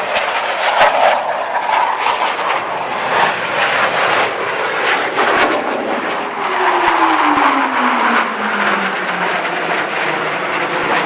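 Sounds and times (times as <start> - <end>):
jet roaring past: 0.0 - 11.0.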